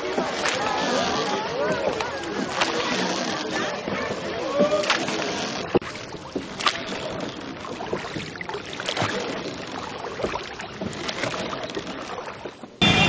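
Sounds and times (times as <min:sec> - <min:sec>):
water lapping around a boat: 0:00.0 - 0:12.8
knocks and splashes: 0:00.0 - 0:12.9.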